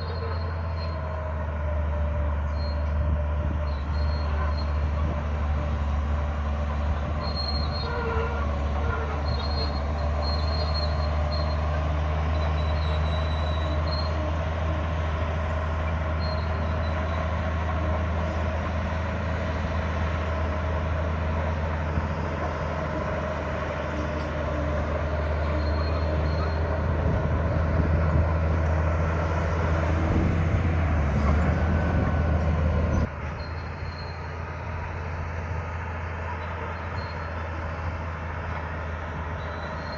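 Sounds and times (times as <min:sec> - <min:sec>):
steel tracks squealing and clanking: 0:00.0 - 0:01.3, 0:02.4 - 0:05.2, 0:06.8 - 0:19.5, 0:21.3 - 0:34.7, 0:36.3 - 0:37.9, 0:39.2 - 0:39.9
diesel engine droning: 0:00.0 - 0:39.9.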